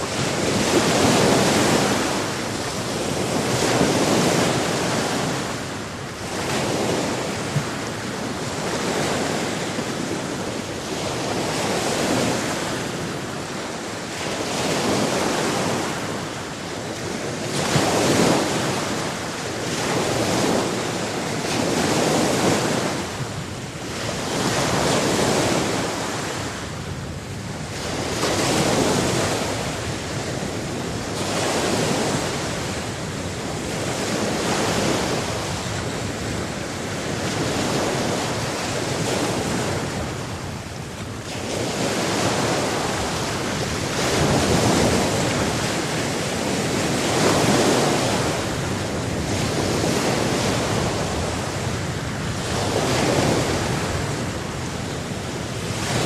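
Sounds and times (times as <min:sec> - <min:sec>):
sea waves surging on shore: 0:00.0 - 0:56.0.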